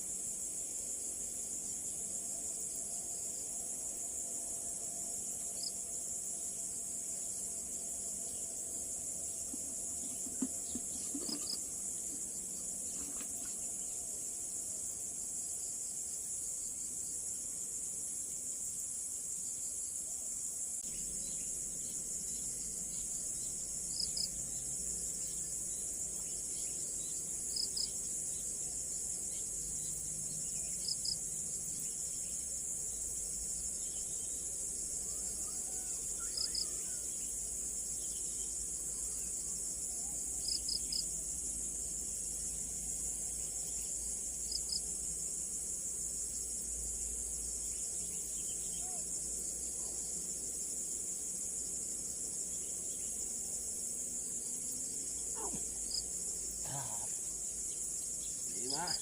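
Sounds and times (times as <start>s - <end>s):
insect chorus: 0.0s - 59.0s.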